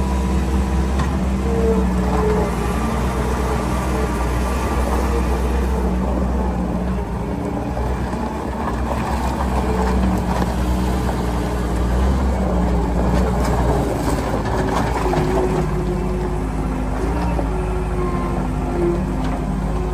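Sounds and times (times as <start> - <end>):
diesel engine rumbling: 0.0 - 19.9.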